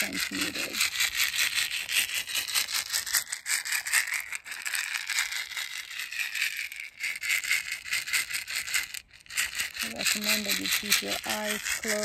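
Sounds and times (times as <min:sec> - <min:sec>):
basket rattle shaking: 0:00.0 - 0:12.0.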